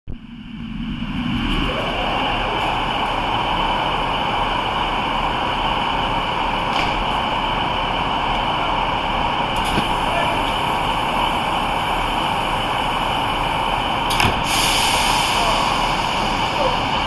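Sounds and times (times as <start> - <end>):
diesel railcar engine running: 0.1 - 17.0.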